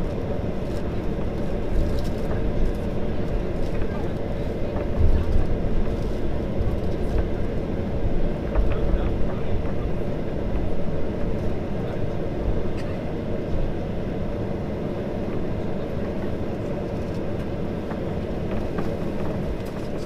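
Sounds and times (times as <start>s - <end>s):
airplane cabin engine hum: 0.0s - 20.0s.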